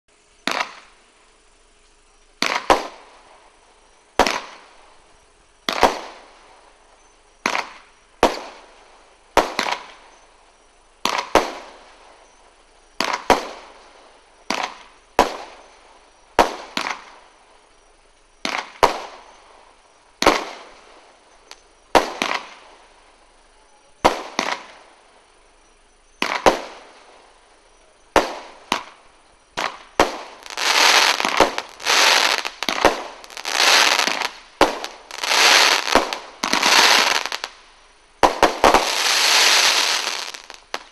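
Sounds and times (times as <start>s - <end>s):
fireworks bangs: 0.4s - 1.0s, 2.4s - 5.0s, 5.6s - 6.8s, 7.4s - 10.2s, 11.0s - 12.3s, 13.0s - 17.4s, 18.4s - 23.0s, 23.8s - 25.1s, 26.2s - 37.6s, 38.2s - 40.9s.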